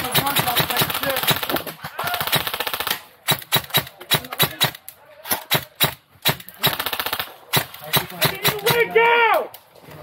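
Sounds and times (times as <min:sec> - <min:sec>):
airsoft guns firing: 0:00.0 - 0:08.9.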